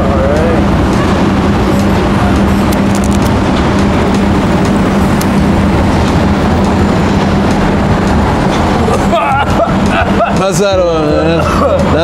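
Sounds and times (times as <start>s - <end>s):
low engine hum: 0.0s - 12.0s
street traffic noise: 0.0s - 12.0s.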